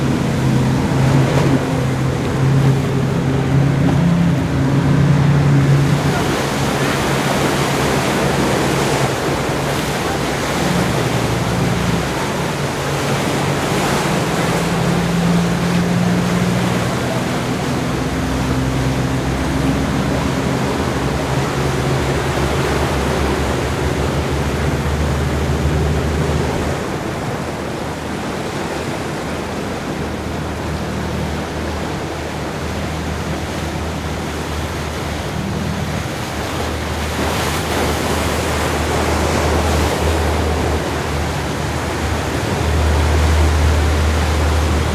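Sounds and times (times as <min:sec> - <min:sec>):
ocean surf washing ashore: 0:00.0 - 0:44.9.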